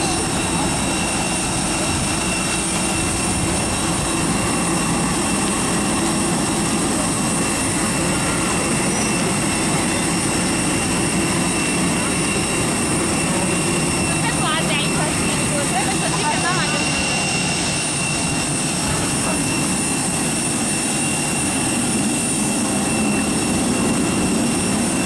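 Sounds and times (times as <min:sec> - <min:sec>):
aircraft turbine engine running: 0:00.0 - 0:25.0.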